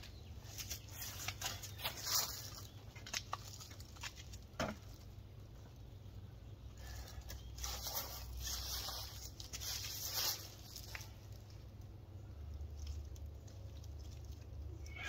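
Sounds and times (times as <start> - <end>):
rustling and handling noises: 0.0 - 5.9, 6.8 - 14.8.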